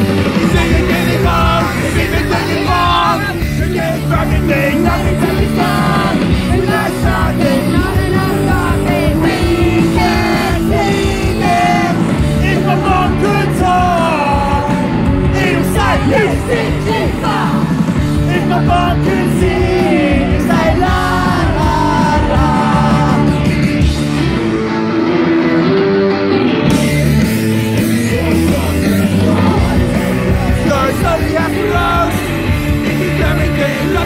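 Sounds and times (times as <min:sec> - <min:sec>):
punk rock band playing: 0:00.0 - 0:34.0
person singing: 0:00.3 - 0:23.6, 0:27.7 - 0:34.0.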